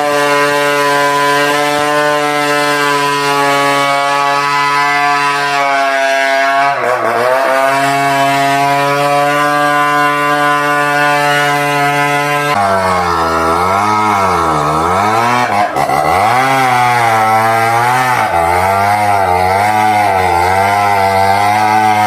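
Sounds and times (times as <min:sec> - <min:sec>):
chainsaw cutting tree trunk: 0:00.0 - 0:22.0.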